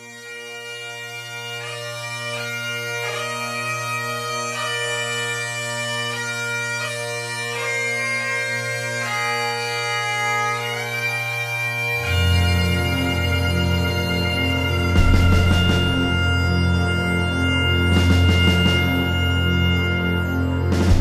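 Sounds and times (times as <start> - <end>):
bagpipe melody over drones: 0.0 - 21.0.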